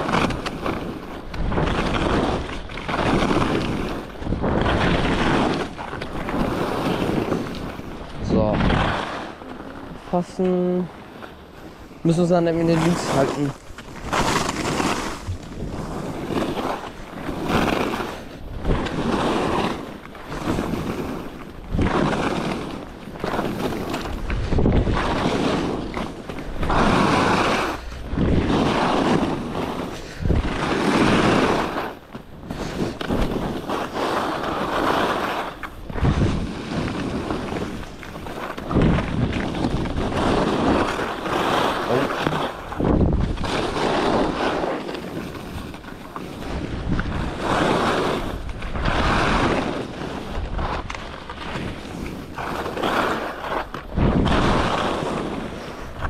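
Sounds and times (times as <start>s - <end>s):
skis scraping across snow: 0.0s - 56.0s
wind on microphone: 0.0s - 56.0s.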